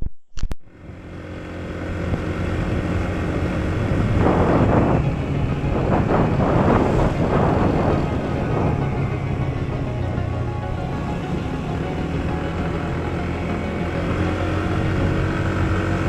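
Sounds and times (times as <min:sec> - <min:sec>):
scooter engine running: 0:00.7 - 0:16.0
wind buffeting microphone: 0:01.6 - 0:16.0.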